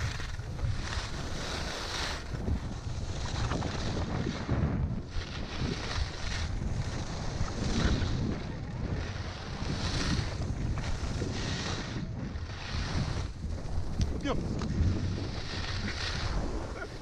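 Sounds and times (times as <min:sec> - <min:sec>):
skis hissing and scraping on snow: 0:00.0 - 0:17.0
wind buffeting microphone: 0:00.0 - 0:17.0.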